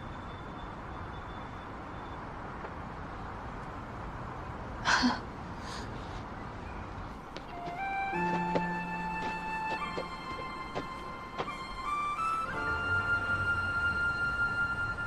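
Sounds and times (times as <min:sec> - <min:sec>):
low background ambience: 0:00.0 - 0:15.0.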